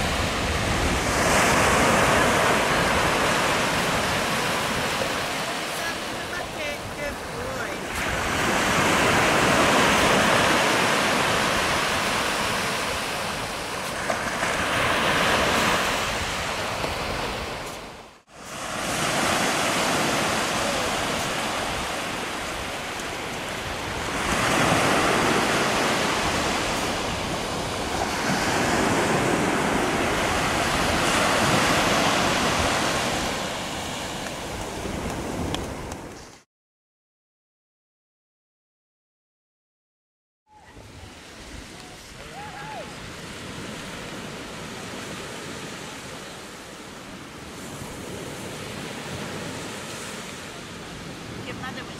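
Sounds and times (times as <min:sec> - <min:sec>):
sea surf breaking: 0:00.0 - 0:36.3, 0:40.6 - 0:51.9.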